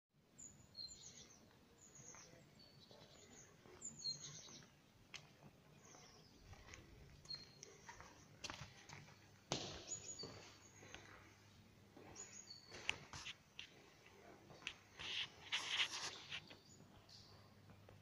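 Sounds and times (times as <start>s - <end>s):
small birds chirping: 0.3s - 17.8s.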